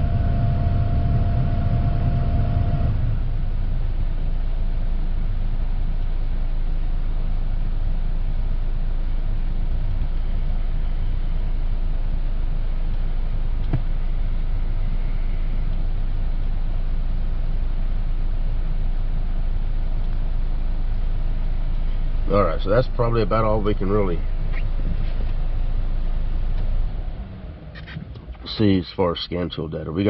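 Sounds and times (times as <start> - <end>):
car engine idling: 0.0 - 29.6.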